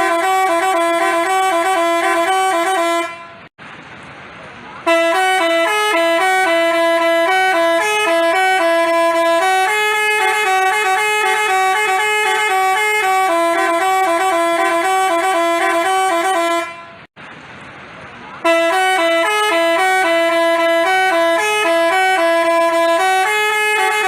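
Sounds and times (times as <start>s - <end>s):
musical bus horn playing a tune: 0.0s - 3.5s, 4.8s - 17.1s, 18.4s - 24.0s.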